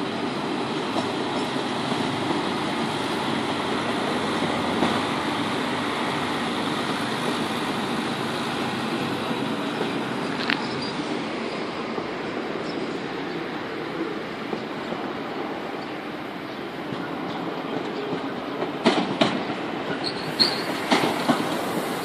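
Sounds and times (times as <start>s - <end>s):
diesel railcar engine: 0.0s - 22.0s
train wheel noise: 0.0s - 22.0s.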